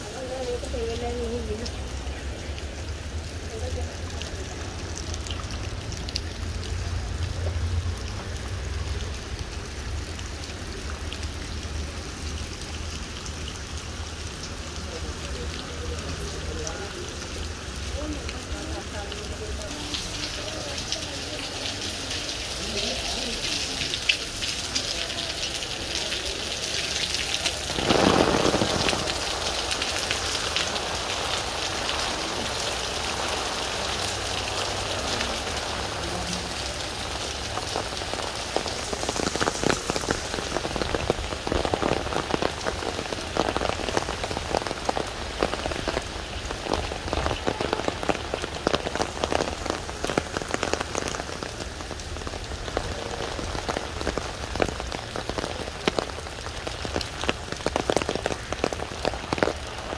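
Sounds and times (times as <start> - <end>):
close raindrop hits: 0.0 - 59.9
heavy rain on wet paving: 0.0 - 59.9.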